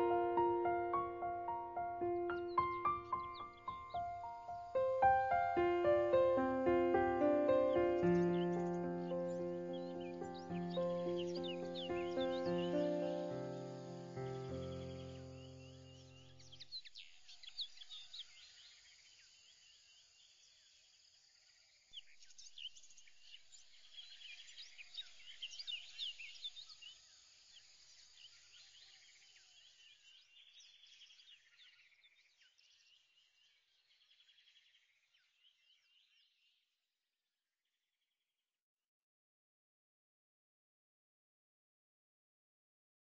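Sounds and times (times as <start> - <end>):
many small birds chirping: 0.0 - 20.7, 22.0 - 36.5.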